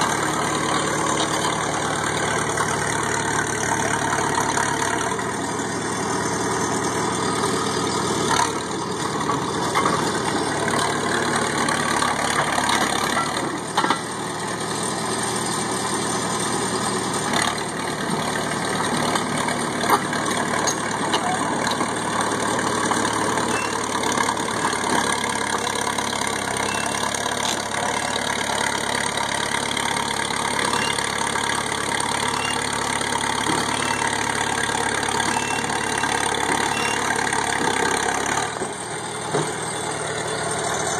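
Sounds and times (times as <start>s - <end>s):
loader engine running: 0.0s - 40.9s.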